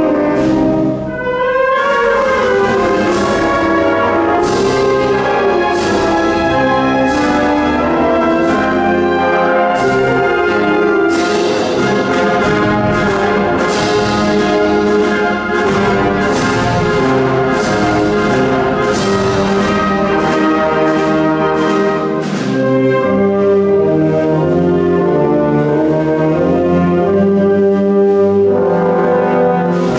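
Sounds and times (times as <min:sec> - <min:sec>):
wind band playing a march: 0:00.0 - 0:29.9.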